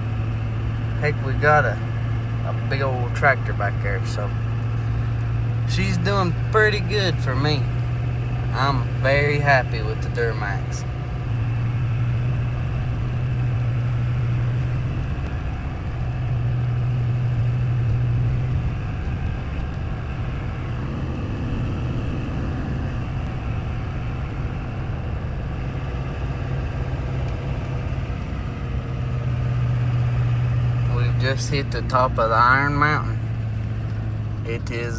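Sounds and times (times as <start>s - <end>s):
low engine drone: 0.0s - 34.9s
road noise: 0.0s - 34.9s.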